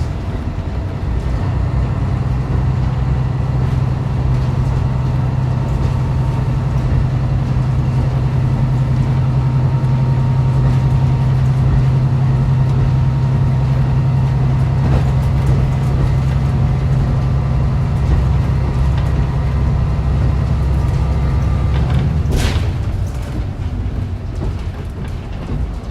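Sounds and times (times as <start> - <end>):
diesel engine drone: 0.0 - 25.9
wheel and rail noise: 0.0 - 25.9.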